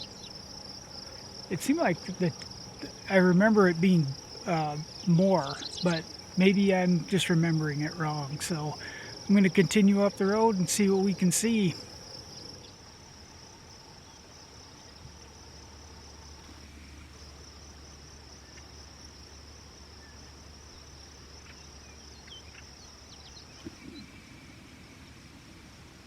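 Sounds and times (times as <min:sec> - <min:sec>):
faint low hum: 0:00.0 - 0:26.0
insects trilling: 0:00.0 - 0:26.0.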